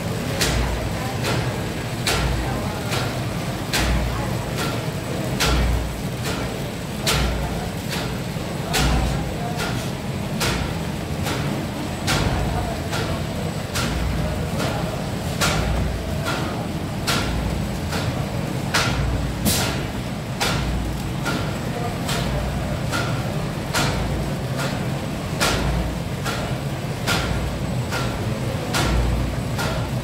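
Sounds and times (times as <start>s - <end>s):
sharp mechanical clack: 0.2s - 30.0s.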